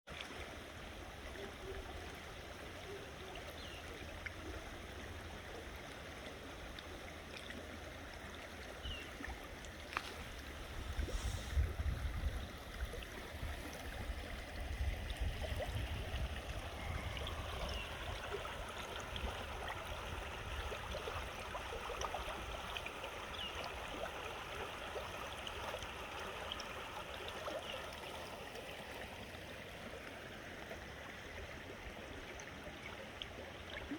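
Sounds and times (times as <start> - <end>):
creek flowing: 0.1 - 33.9.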